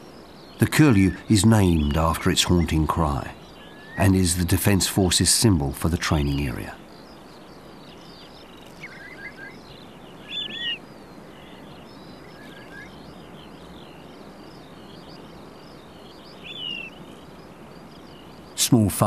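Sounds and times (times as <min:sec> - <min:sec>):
steady hiss: 0:00.0 - 0:19.0
wild birds twittering: 0:00.0 - 0:19.0.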